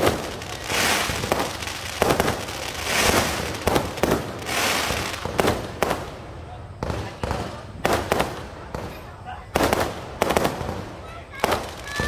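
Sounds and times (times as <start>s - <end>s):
fireworks bangs: 0.0s - 12.0s
fireworks hissing and crackling: 0.0s - 12.0s.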